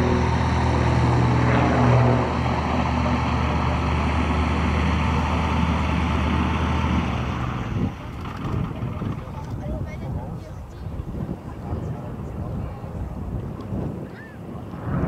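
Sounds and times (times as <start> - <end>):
airplane engine and propeller droning: 0.0 - 15.0.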